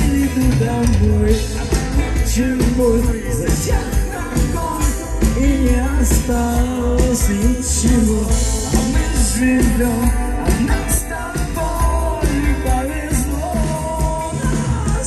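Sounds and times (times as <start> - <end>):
drums with cymbal hits: 0.0 - 15.0
heavy bass line: 0.0 - 15.0
wavering melodic lead line: 0.0 - 15.0.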